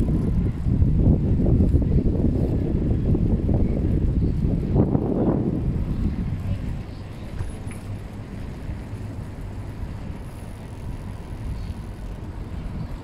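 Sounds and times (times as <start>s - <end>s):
city street traffic: 0.0s - 13.0s
wind buffeting microphone: 0.0s - 13.0s.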